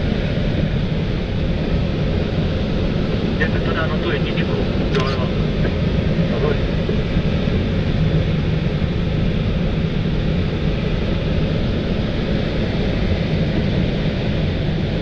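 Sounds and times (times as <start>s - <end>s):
airflow rushing in glider cockpit: 0.0s - 15.0s.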